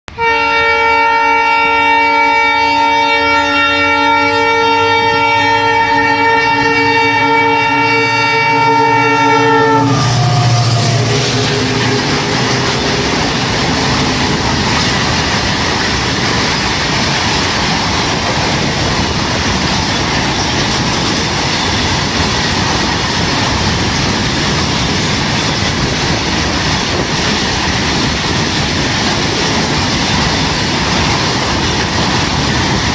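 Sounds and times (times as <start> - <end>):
train wheels running on rails: 1.6 - 32.9.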